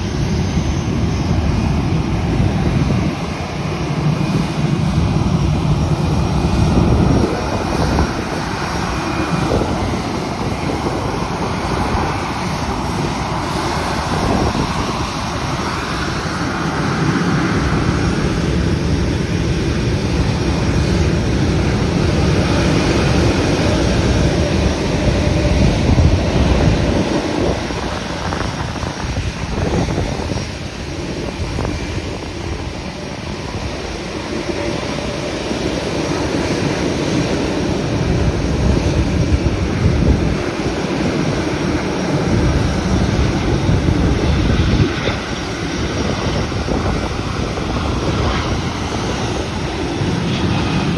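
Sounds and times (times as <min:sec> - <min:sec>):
jet engines at takeoff power: 0:00.0 - 0:50.9.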